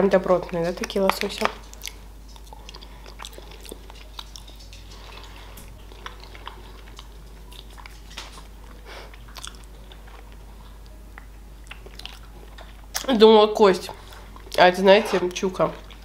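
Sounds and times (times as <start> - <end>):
person chewing: 0.4 - 16.0.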